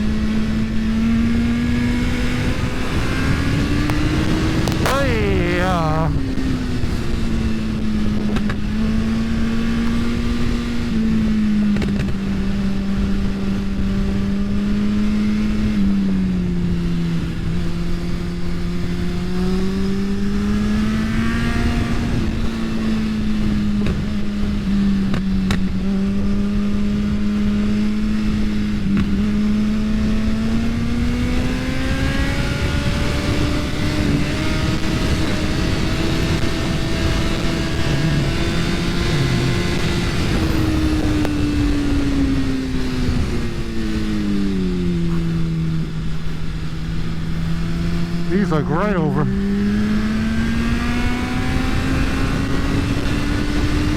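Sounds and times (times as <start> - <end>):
motorcycle engine running hard: 0.0 - 53.9.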